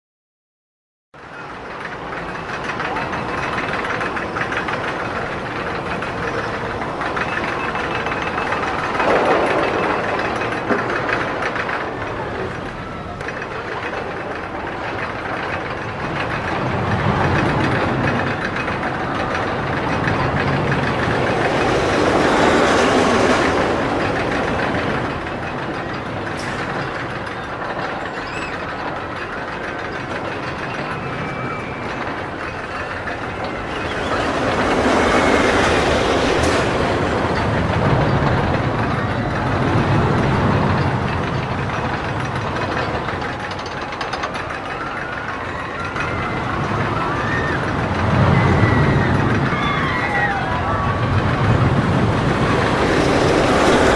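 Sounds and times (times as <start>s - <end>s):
roller coaster wheels rattling: 1.2s - 53.9s.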